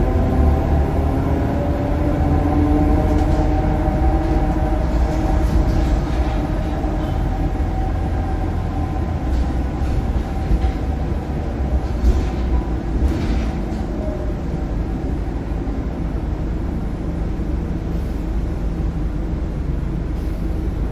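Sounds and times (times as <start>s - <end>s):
bus diesel engine rumble: 0.0s - 20.9s.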